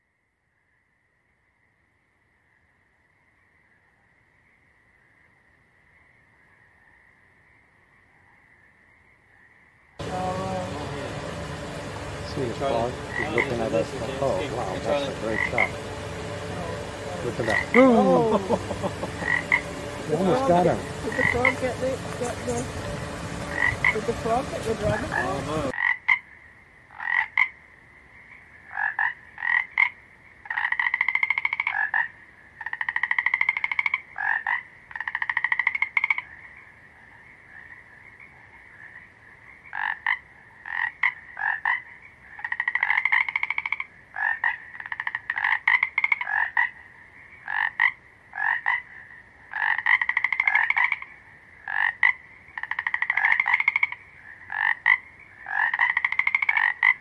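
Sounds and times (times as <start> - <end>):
frog croaking: 0.6 - 57.0.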